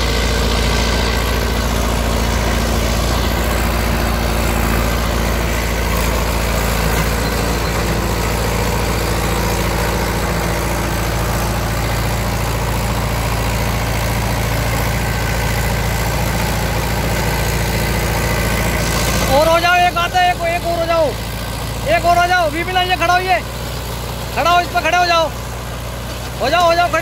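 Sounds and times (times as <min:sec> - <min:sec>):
rotavator tilling soil: 0:00.0 - 0:27.0
tractor diesel engine under load: 0:00.0 - 0:27.0.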